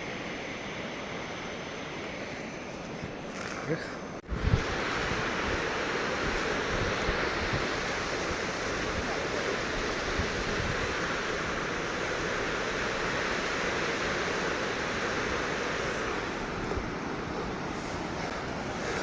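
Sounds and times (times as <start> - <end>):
waterfall roaring: 3.2 - 19.0.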